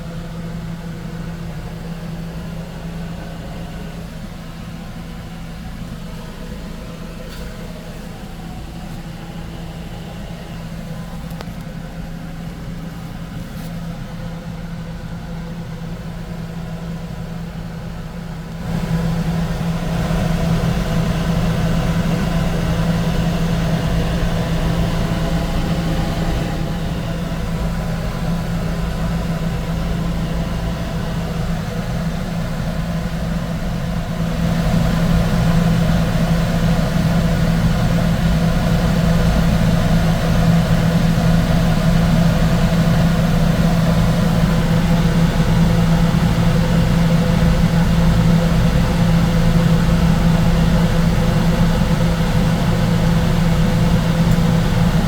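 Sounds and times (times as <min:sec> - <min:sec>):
machine hum droning: 0:00.0 - 0:55.0.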